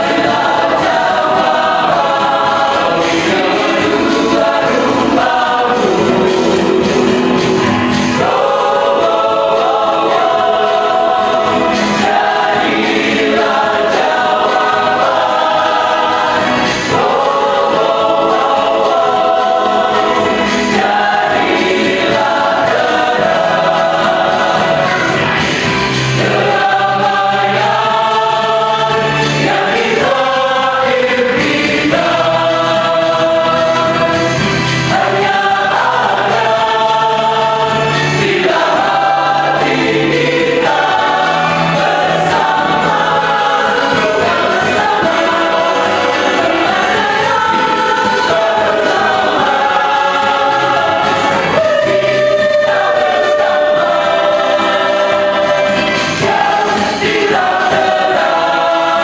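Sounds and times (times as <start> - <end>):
choir singing gospel: 0.0 - 59.0.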